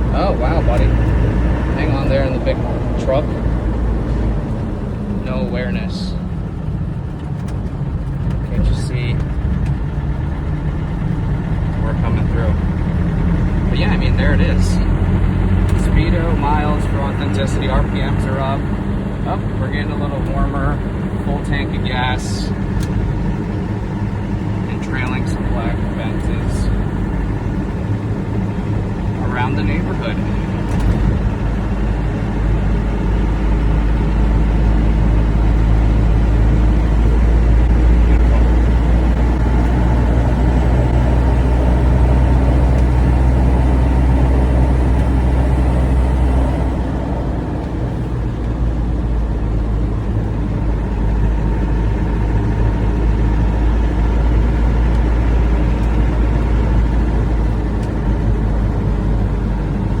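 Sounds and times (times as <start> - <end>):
vehicle engine droning: 0.0 - 60.0.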